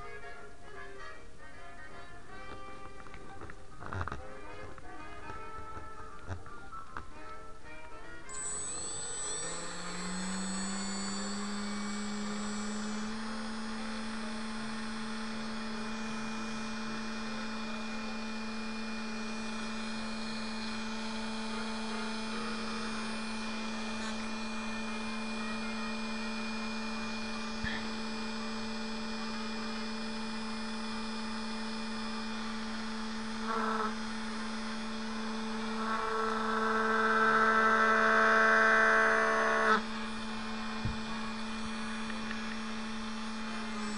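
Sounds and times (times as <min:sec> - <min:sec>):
small electric motor whining: 0:00.0 - 0:43.9.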